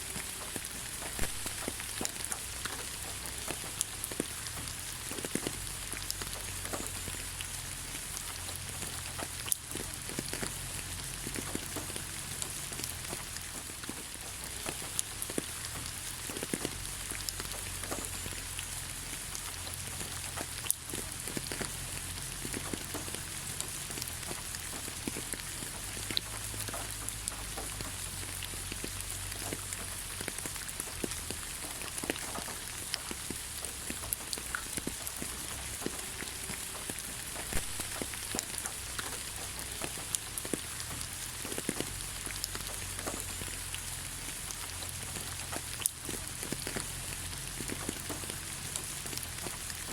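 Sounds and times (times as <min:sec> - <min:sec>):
rain falling on ground: 0:00.0 - 0:49.9.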